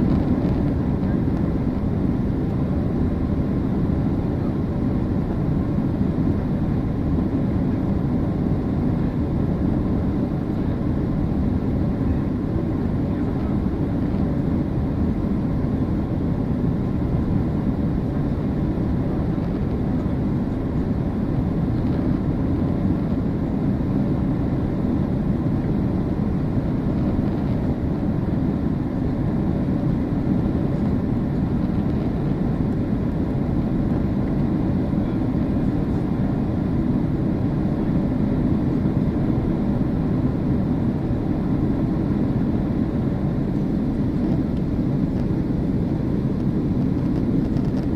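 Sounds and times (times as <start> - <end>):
engine and air rumble in cabin: 0.0 - 47.9
faint steady hum: 0.0 - 47.9.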